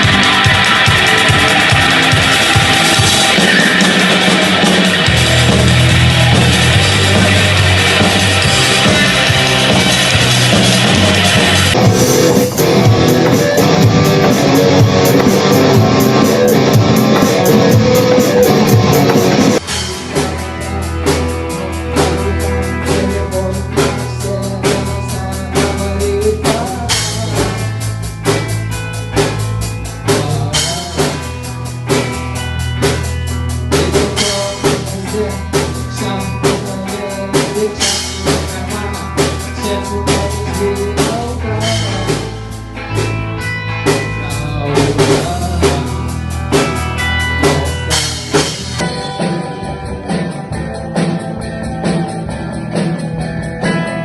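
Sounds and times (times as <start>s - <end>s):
drum kit beat: 0.0s - 54.0s
instrumental rock music: 0.0s - 54.0s.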